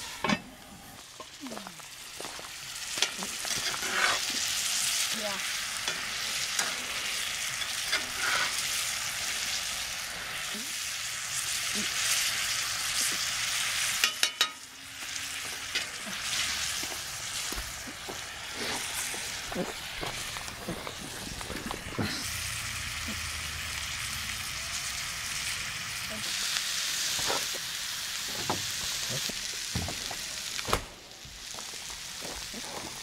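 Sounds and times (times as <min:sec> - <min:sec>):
food sizzling in a skillet: 0:00.0 - 0:33.0.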